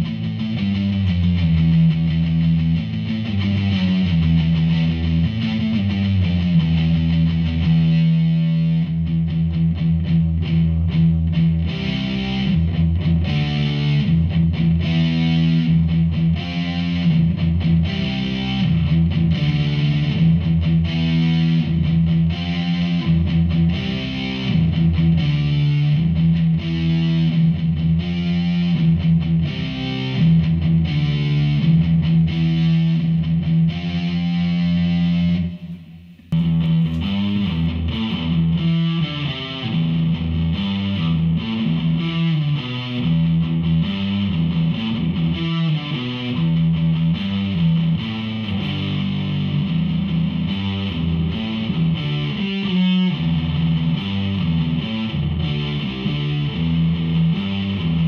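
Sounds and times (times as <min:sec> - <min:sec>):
distorted electric guitar riff: 0:00.0 - 0:58.0.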